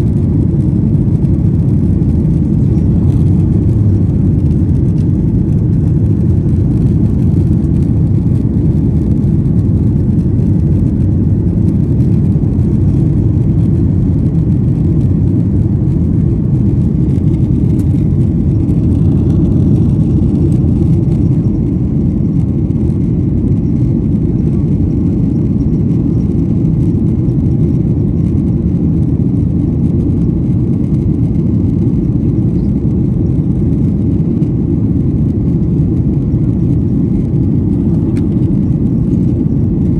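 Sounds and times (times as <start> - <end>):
airliner cabin noise: 0.0 - 39.9.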